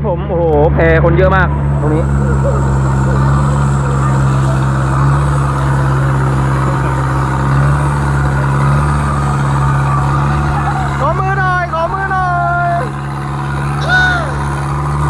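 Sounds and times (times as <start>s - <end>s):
steady engine drone: 0.0s - 15.0s.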